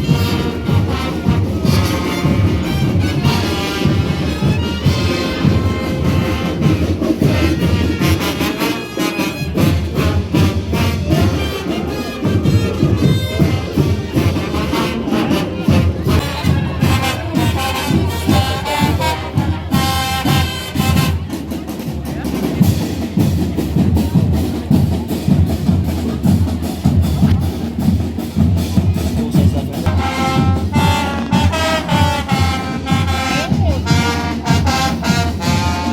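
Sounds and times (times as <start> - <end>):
drums beating: 0.0 - 35.9
marching band brass: 0.0 - 35.9.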